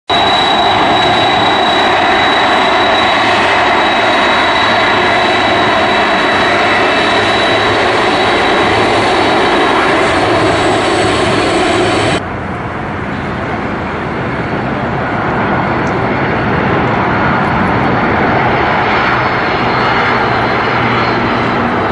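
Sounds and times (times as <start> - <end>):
high-pitched engine whine: 0.1 - 21.9
jet engines running: 0.1 - 21.9.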